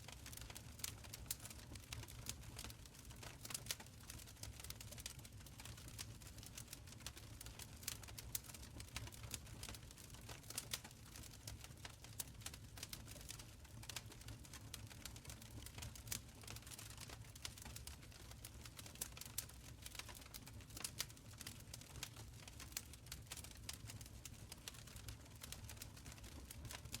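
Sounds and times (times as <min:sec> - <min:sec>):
wood fire crackling and popping: 0:00.1 - 0:27.0.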